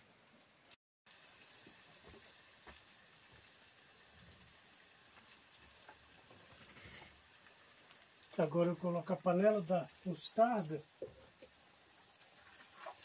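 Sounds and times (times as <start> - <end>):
fat sizzling in frying pan: 0.0 - 13.0.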